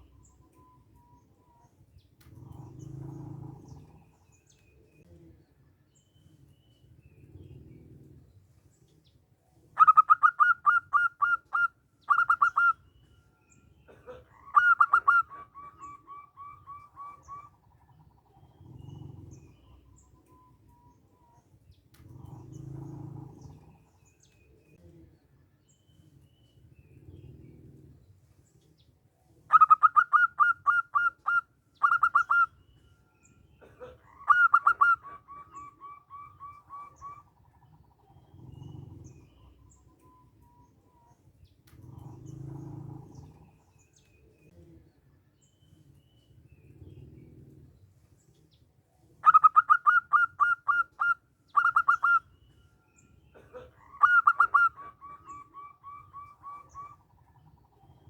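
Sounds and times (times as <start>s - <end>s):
dove singing: 0.0s - 58.0s.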